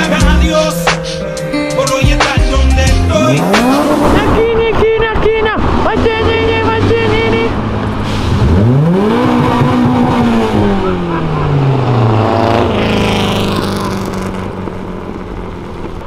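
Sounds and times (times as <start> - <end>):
car engine revving: 0.0 - 1.2, 2.6 - 16.0.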